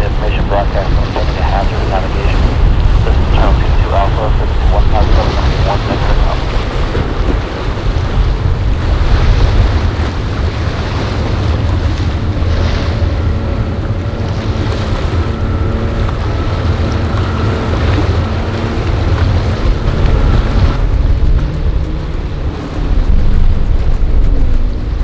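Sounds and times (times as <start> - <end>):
boat engines: 0.0 - 25.0
surf: 0.0 - 25.0
wind buffeting microphone: 0.0 - 25.0.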